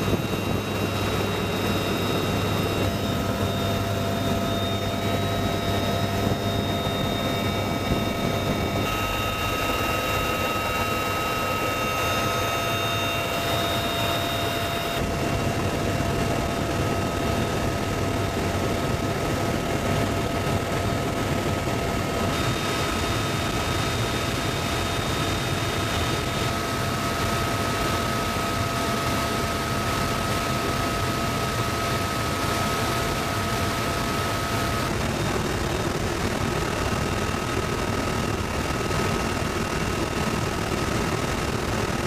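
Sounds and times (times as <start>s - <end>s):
helicopter rotor and turbine noise: 0.0s - 42.0s
thin steady whine: 0.0s - 42.0s.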